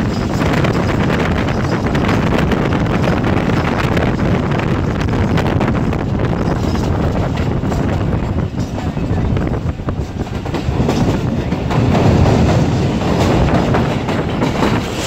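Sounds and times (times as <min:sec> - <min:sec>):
train wheels rumbling on track: 0:00.0 - 0:15.0
wind rushing over microphone: 0:00.0 - 0:15.0.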